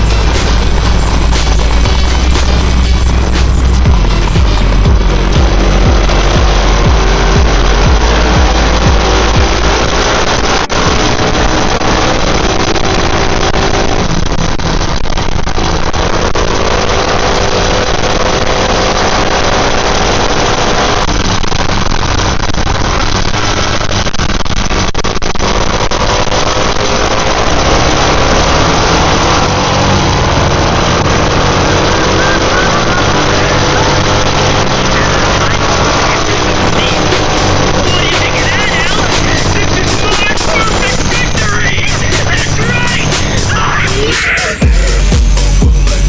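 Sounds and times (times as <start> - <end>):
motorcycle engines revving: 0.0 - 46.0
steady rushing noise: 0.0 - 46.0.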